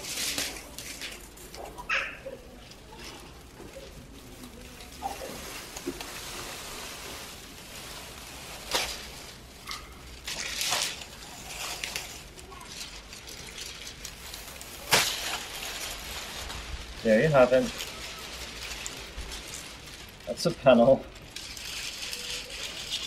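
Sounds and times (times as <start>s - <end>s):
plastic film rustling and crinkling: 0.0s - 23.0s.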